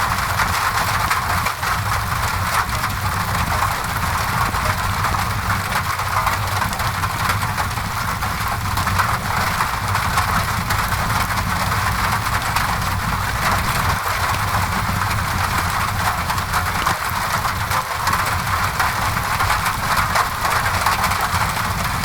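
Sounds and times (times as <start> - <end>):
rain on a window: 0.0 - 22.0
wood fire crackling: 0.2 - 22.0
low steady rumble: 0.4 - 22.0.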